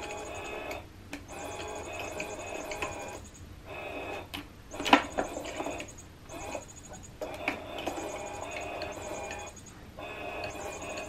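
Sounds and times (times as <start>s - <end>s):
toy motor whirring: 0.0s - 11.0s.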